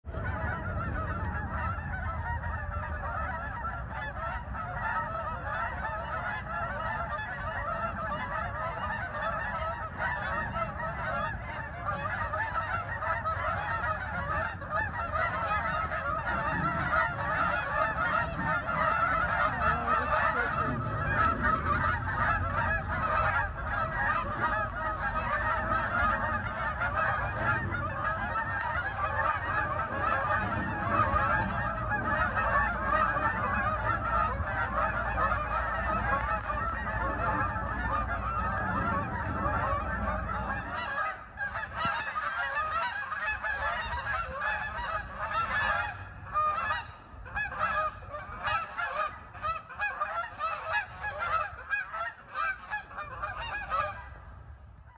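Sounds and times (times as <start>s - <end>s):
flock of geese calling: 0.1s - 54.9s.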